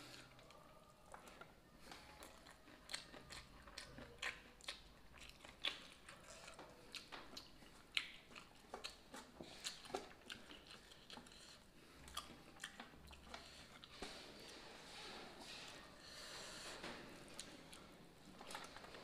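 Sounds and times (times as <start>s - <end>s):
man chewing food: 0.0s - 19.0s.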